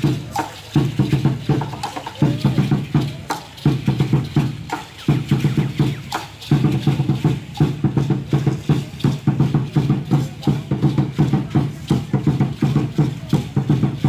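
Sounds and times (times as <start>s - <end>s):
drum beaten fast: 0.0s - 14.0s.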